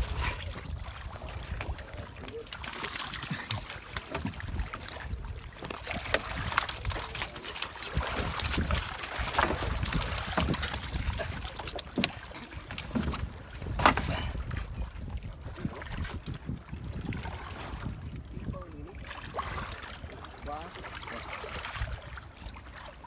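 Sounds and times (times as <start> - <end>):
wind buffeting microphone: 0.0 - 2.4, 3.2 - 22.7
water sloshing: 0.0 - 23.0.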